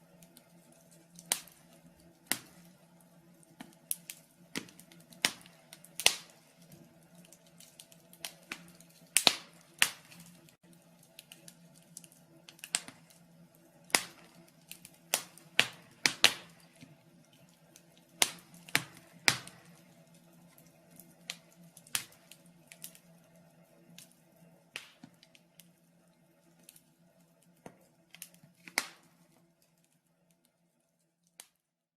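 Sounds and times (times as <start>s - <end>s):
wood fire crackling: 0.0s - 31.7s.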